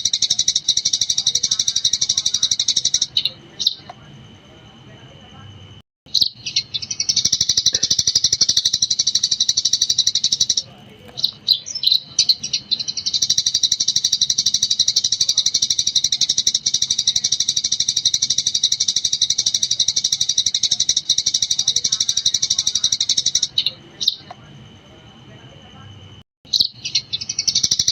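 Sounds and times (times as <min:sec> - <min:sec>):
sparrow chirping: 0:00.0 - 0:04.1, 0:06.1 - 0:24.4, 0:26.5 - 0:27.9.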